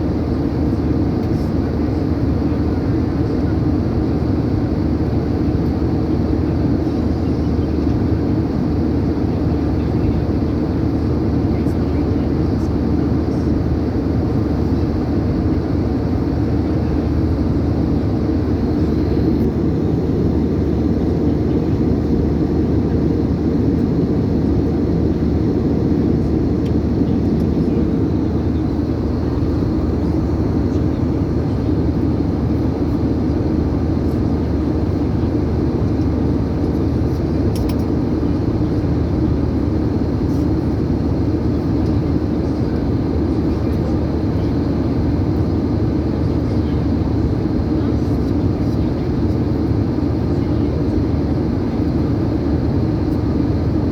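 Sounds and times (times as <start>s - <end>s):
airliner cabin drone: 0.0s - 53.9s.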